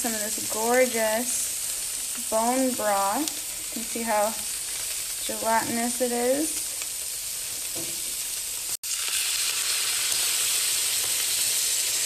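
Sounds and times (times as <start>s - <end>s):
livers sizzling in a frying pan: 0.0s - 12.0s.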